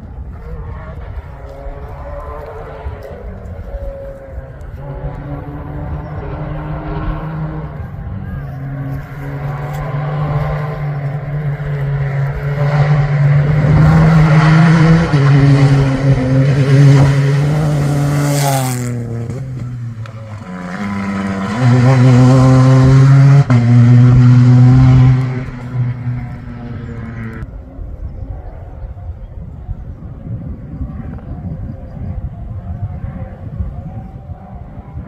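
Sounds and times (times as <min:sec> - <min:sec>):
race car engine at full throttle: 0:00.0 - 0:35.0.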